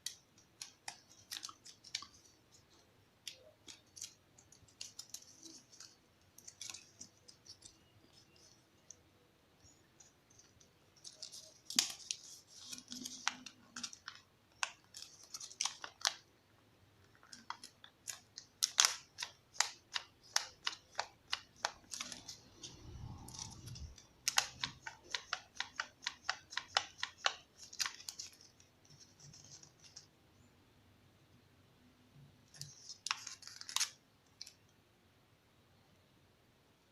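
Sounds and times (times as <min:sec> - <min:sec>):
paper crackling and crinkling: 0:00.0 - 0:16.4, 0:17.0 - 0:30.1, 0:32.4 - 0:34.6.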